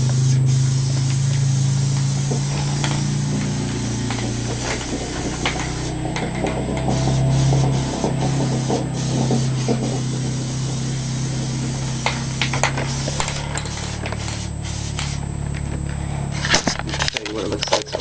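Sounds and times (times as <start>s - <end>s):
spray can hissing: 0.0s - 15.4s
steady low hum: 0.0s - 18.0s.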